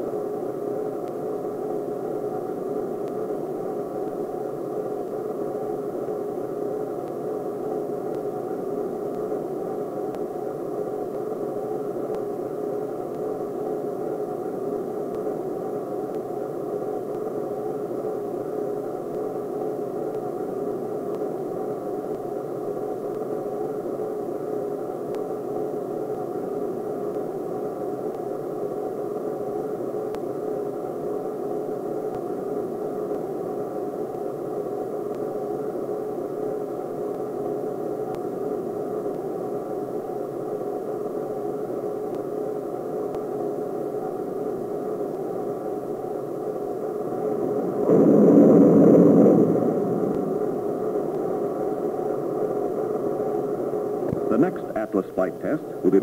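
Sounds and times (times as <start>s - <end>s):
faint low hum: 0.0s - 56.0s
film soundtrack hiss: 0.0s - 56.0s.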